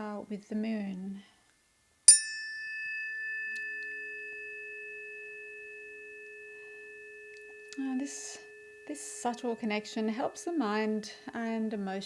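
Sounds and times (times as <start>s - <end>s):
tuning fork ringing: 2.1s - 12.0s.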